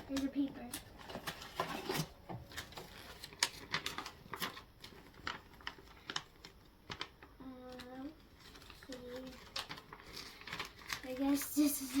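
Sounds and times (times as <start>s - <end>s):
paper packaging crinkling: 0.0s - 12.0s.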